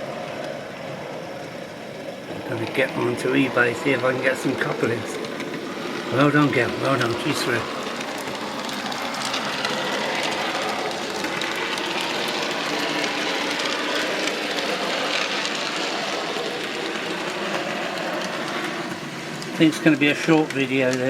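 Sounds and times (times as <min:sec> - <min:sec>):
model train motor whirring: 0:00.0 - 0:21.0
wheels rolling on rails: 0:00.0 - 0:21.0.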